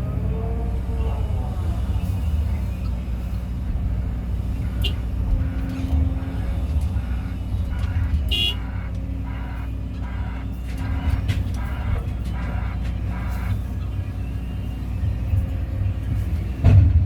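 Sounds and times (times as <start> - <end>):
excavator diesel engine rumbling: 0.0 - 17.0.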